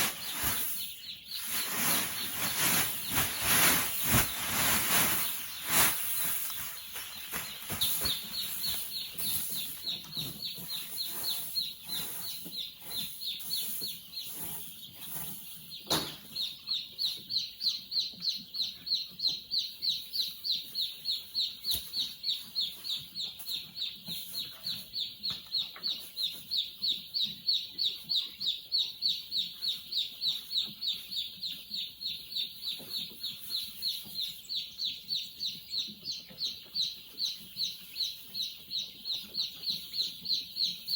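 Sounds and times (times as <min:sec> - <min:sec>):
chickens calling: 0:00.0 - 0:40.9.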